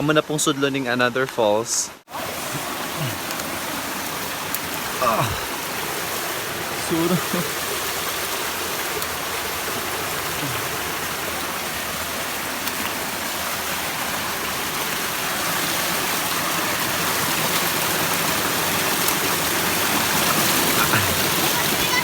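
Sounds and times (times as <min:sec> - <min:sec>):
rushing water of a stream: 0:00.0 - 0:22.0.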